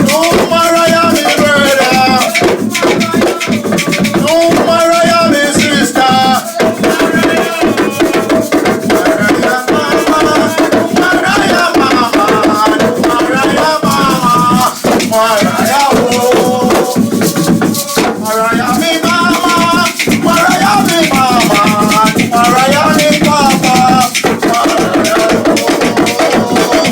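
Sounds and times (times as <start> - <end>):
hand drums playing: 0.0 - 26.9
shakers rattling: 0.0 - 26.9
voices singing: 0.0 - 26.9.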